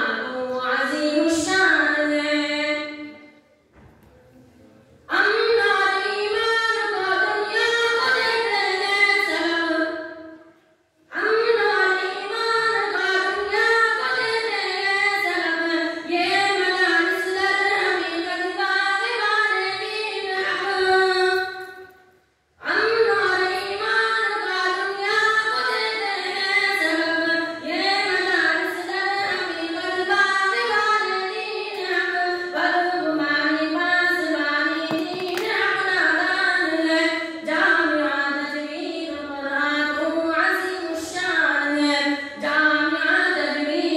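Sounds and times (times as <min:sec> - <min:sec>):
boy singing into a microphone: 0:00.0 - 0:03.1, 0:05.1 - 0:10.4, 0:11.1 - 0:21.9, 0:22.6 - 0:43.9.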